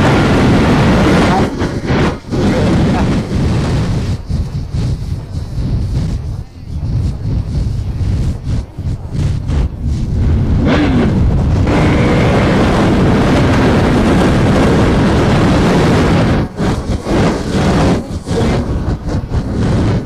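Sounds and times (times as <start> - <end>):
motorcycle engine revving: 0.0 - 6.4, 7.0 - 20.0
wind on microphone: 0.0 - 20.0.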